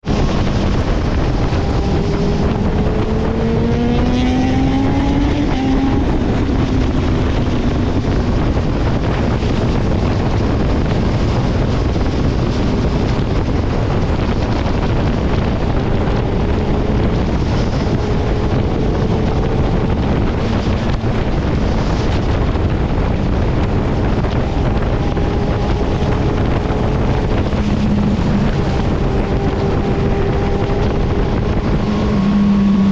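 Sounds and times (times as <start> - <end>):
motorcycle engine revving: 0.0 - 32.9
wind noise on microphone: 0.0 - 32.9.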